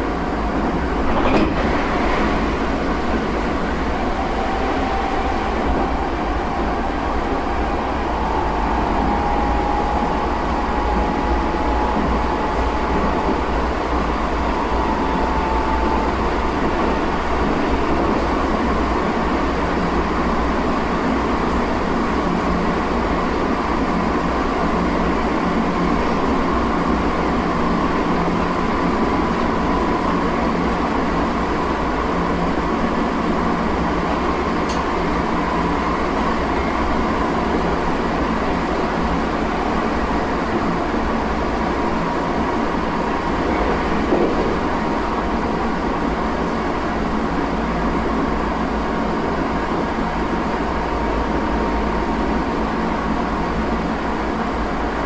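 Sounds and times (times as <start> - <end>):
wheels rumbling on rail: 0.0 - 55.0
faint train motor whine: 2.5 - 55.0.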